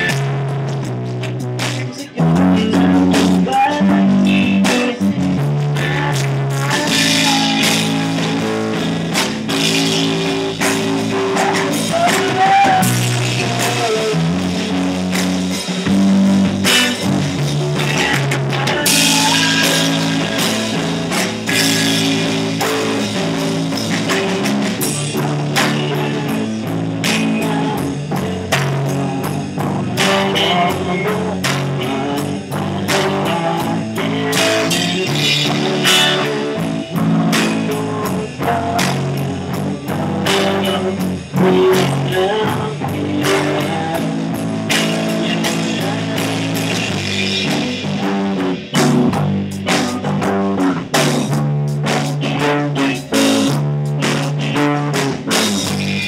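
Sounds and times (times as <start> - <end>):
drum kit playing: 0.0 - 56.0
electric guitars: 0.0 - 56.0.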